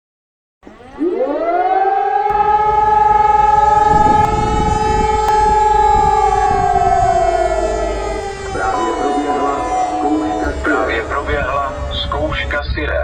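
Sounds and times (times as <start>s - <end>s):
air-raid siren winding up: 0.6s - 12.8s.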